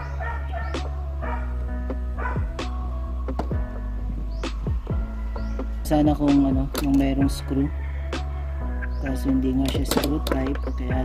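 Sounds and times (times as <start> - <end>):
background music with low bass: 0.0 - 11.0.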